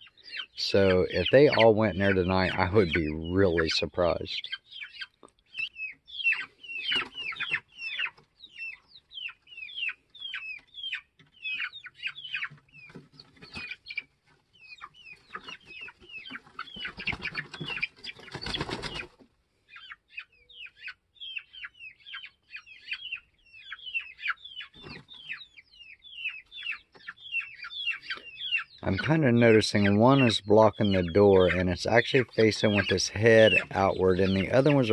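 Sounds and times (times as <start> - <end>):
chickens peeping and chattering: 0.0 - 34.9.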